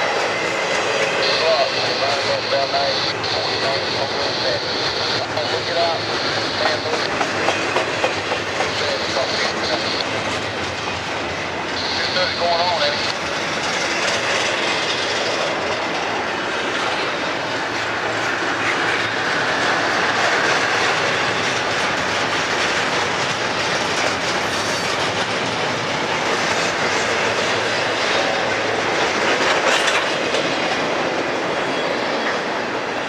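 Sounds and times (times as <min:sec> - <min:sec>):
steel wheels on rail: 0:00.0 - 0:33.0
train clicks: 0:00.0 - 0:33.0.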